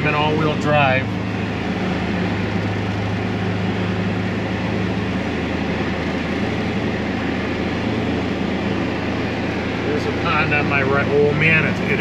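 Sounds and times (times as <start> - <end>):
engine droning inside cab: 0.0 - 12.0
heater fan blowing: 0.0 - 12.0.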